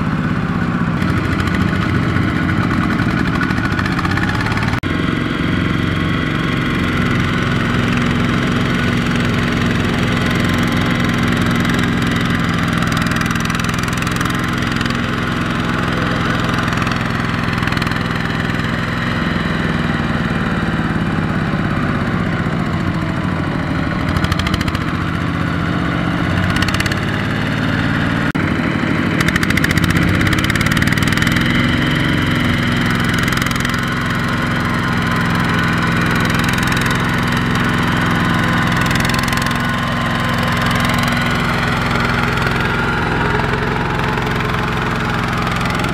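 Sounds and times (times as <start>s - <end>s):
diesel tractor engine under load: 0.0s - 45.9s.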